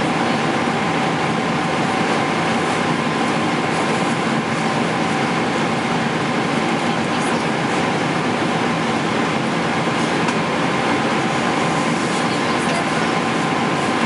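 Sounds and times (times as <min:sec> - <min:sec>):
airplane cabin airflow and engine: 0:00.0 - 0:14.0.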